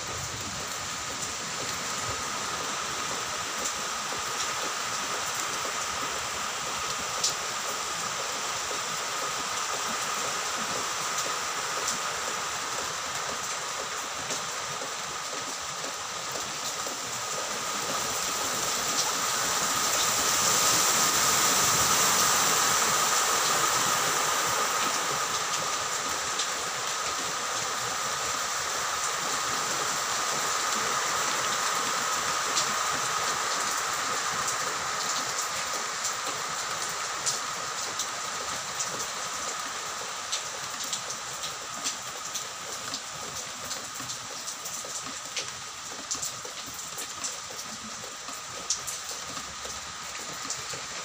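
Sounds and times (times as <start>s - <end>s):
heavy rain pouring: 0.0s - 51.0s.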